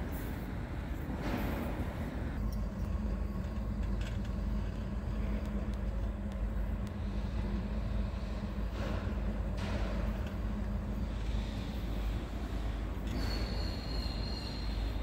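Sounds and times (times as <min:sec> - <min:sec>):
lathe motor and gearbox hum: 0:00.0 - 0:15.0.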